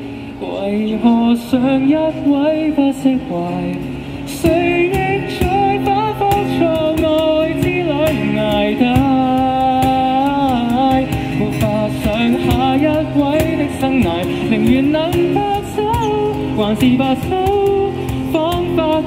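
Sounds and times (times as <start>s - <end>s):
strummed acoustic guitar: 0.0s - 19.0s
man singing into microphone: 0.4s - 19.0s
cajon beat: 3.5s - 19.0s.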